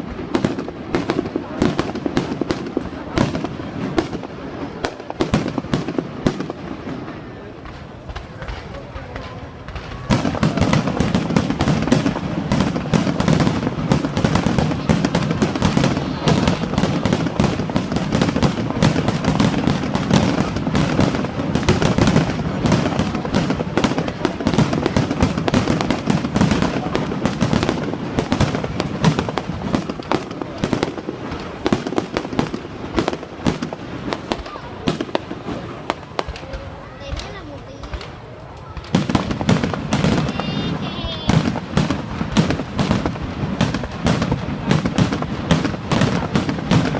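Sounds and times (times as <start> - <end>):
fireworks crackling and banging: 0.0 - 46.9.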